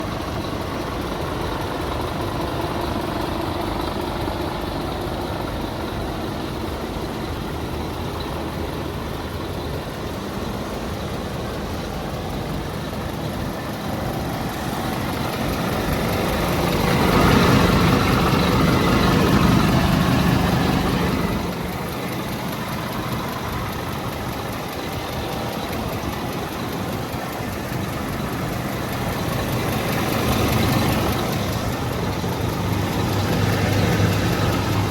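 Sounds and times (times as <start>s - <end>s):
truck diesel engine idling: 0.0s - 34.9s.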